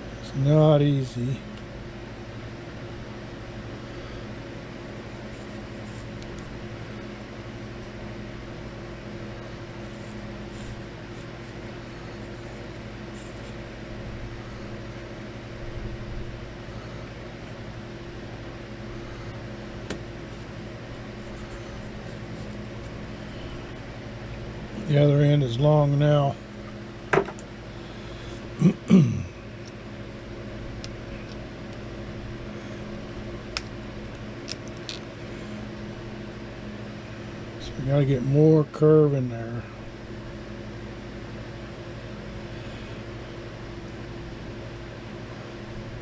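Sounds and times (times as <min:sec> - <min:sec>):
steady machine hum: 0:00.0 - 0:46.0.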